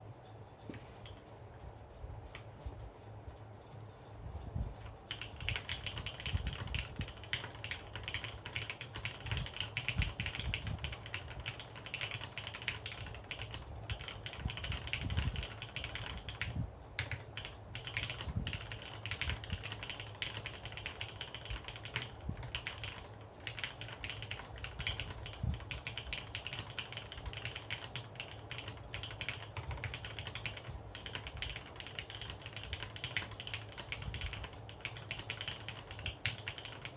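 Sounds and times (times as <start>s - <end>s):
mechanical keyboard typing: 4.8s - 36.9s.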